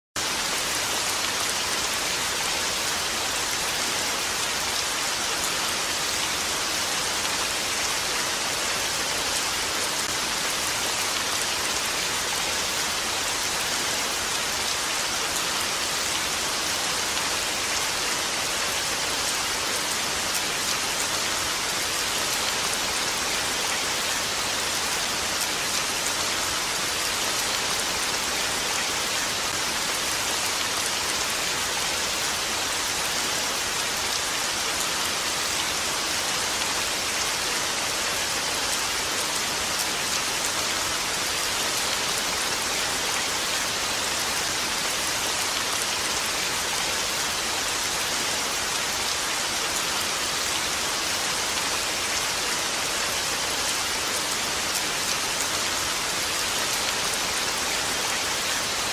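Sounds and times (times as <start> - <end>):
rain falling on a lake: 0.0 - 58.9.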